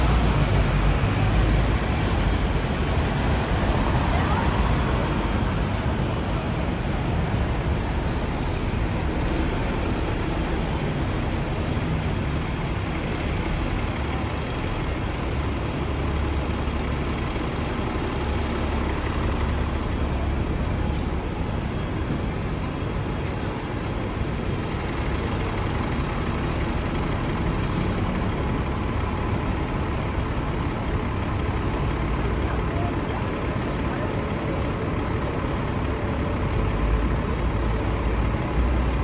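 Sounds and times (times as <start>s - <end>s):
buses idling and moving: 0.0s - 39.0s
street traffic noise: 0.0s - 39.0s.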